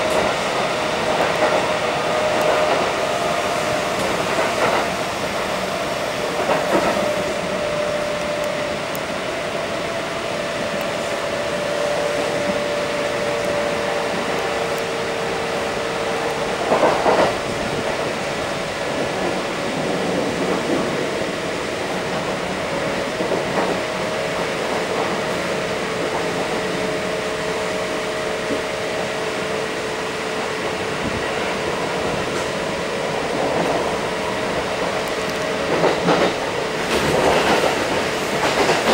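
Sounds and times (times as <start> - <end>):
train clatters: 0.0 - 38.9
train wheels rumbling on rail: 0.0 - 38.9.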